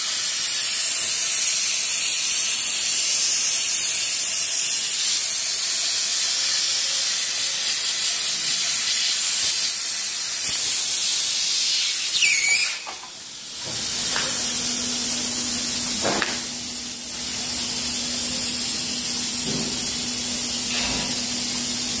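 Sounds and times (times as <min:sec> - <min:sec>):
hot air welder hissing: 0:00.0 - 0:22.0.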